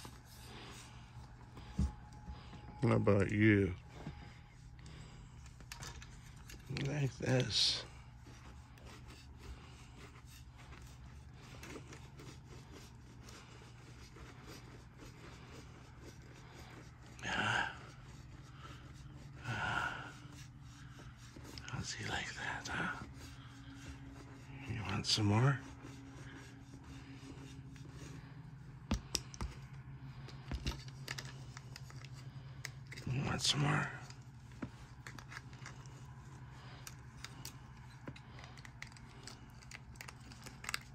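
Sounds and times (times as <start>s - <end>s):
low room hum: 0.0s - 40.9s
back scratcher scratching fur: 5.8s - 40.9s.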